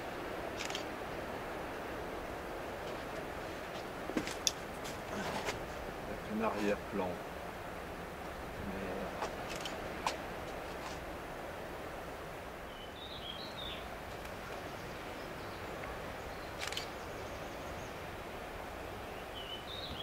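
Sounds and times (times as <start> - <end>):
outdoor background noise: 0.0 - 20.0
birds chirping: 1.6 - 11.6, 12.2 - 20.0.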